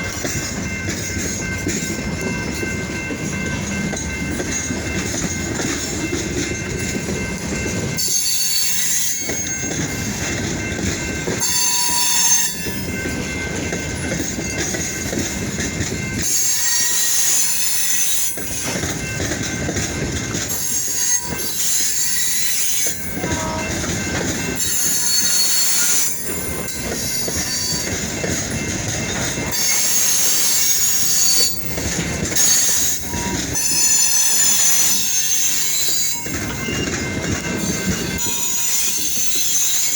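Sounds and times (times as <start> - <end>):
clickety-clack over rail joints: 0.0 - 39.9
train wheels squealing on rails: 0.0 - 39.9.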